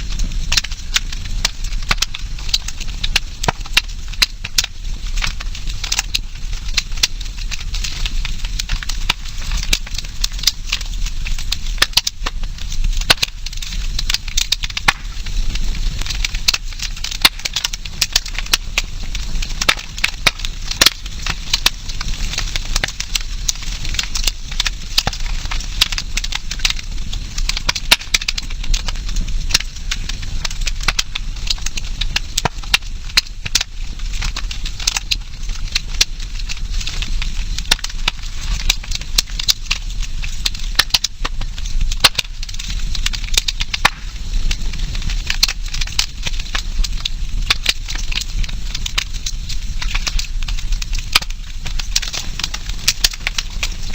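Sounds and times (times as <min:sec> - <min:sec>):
campfire crackling and popping: 0:00.0 - 0:53.9
fire hiss: 0:00.0 - 0:53.9.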